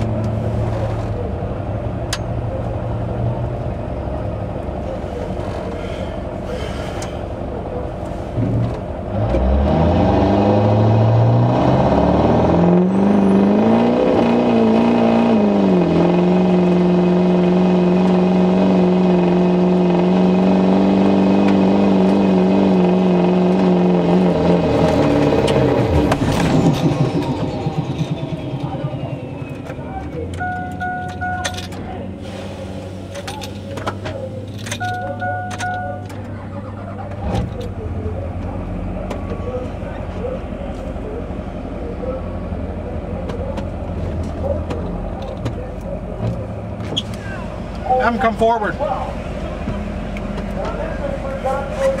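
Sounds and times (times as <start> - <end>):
diesel pickup engine revving: 0.0 - 52.0.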